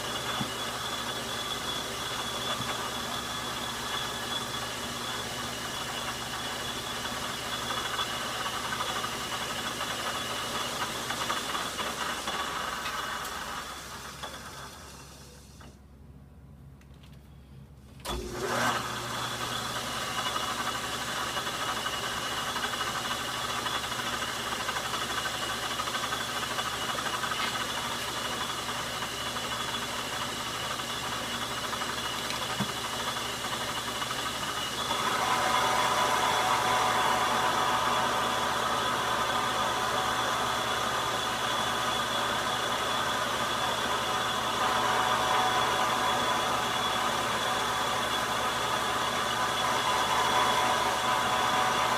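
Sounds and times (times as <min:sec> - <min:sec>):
metal lathe running with whine: 0:00.0 - 0:15.1, 0:18.1 - 0:51.9.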